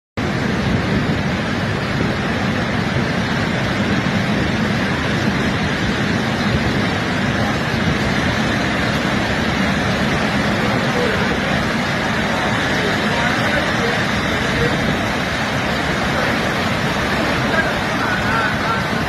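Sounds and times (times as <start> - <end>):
debris flow rushing with low rumble: 0.2 - 19.0.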